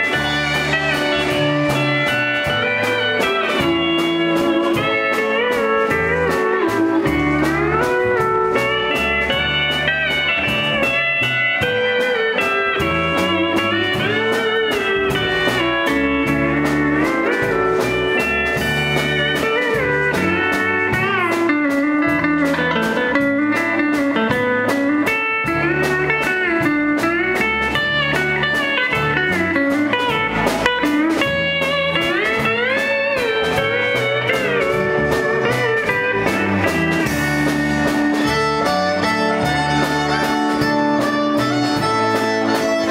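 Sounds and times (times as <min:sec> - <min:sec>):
acoustic guitar: 0:00.0 - 0:42.9
bass line: 0:00.0 - 0:42.9
fiddle: 0:00.0 - 0:42.9
pedal steel guitar: 0:00.0 - 0:42.9
steady drum beat: 0:00.0 - 0:42.9.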